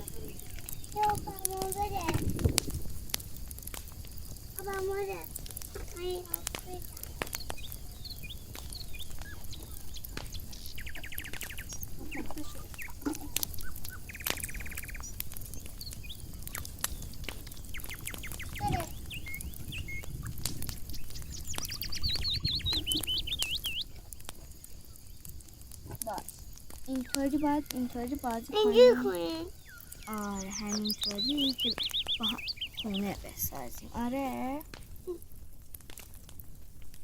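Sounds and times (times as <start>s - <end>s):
small birds chirping and trilling: 0.0s - 35.2s.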